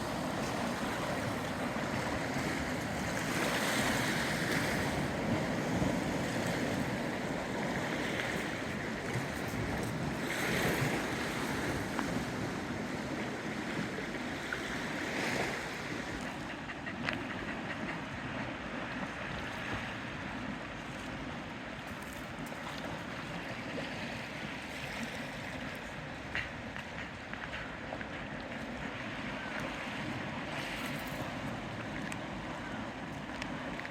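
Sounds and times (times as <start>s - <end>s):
small waves lapping: 0.0s - 33.9s.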